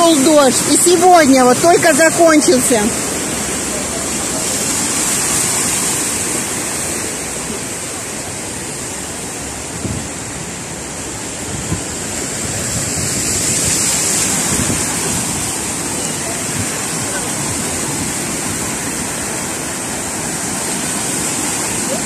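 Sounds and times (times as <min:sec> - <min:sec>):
car tyres sloshing through water: 0:00.0 - 0:22.0
rushing floodwater: 0:00.0 - 0:22.0.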